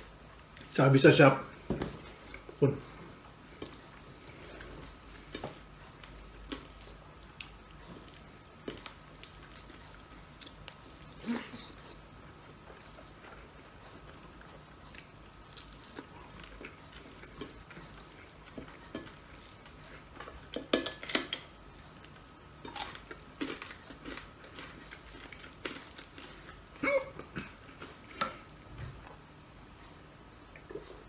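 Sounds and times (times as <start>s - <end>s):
person chewing: 2.0s - 28.5s.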